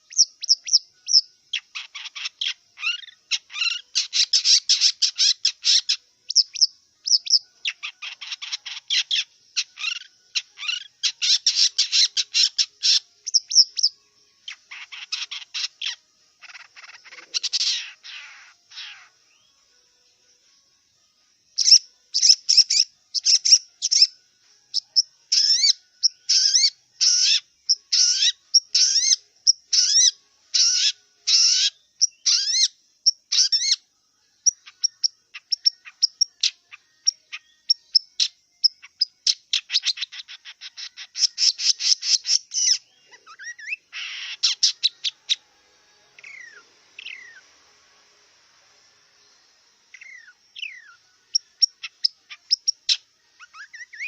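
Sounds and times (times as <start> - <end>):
shrike singing: 0.0 - 19.8, 21.5 - 54.0.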